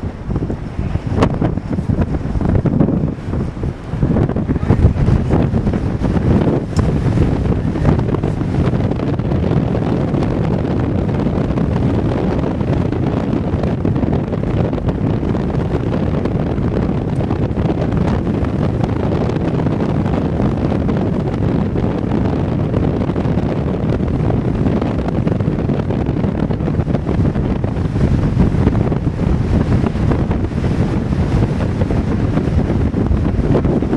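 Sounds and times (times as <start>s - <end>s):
strong wind buffeting microphone: 0.0s - 33.9s.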